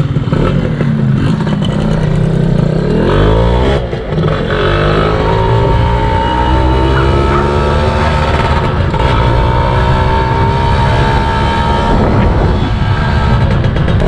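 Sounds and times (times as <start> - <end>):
moped engine running: 0.0 - 14.0.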